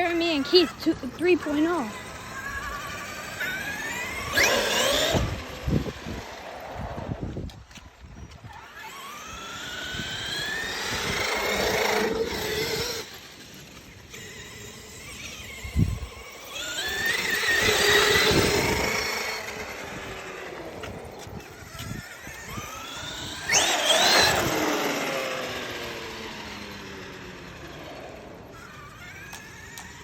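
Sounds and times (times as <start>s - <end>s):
toy car motor whining: 0.0s - 30.0s.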